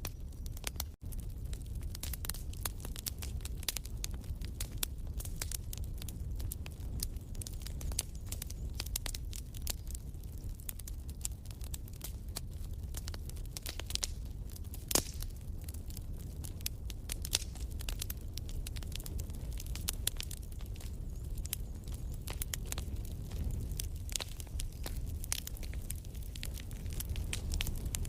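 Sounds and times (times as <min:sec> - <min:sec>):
fire crackling and popping: 0:00.0 - 0:28.0
low fire rumble: 0:00.0 - 0:28.0.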